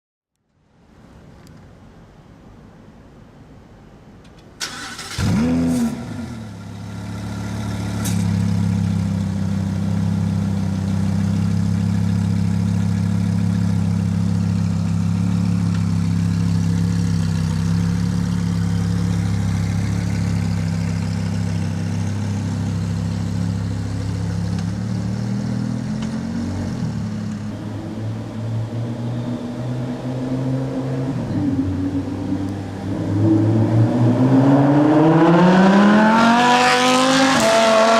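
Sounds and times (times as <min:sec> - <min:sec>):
sports car engine idling and revving: 0:04.9 - 0:37.9.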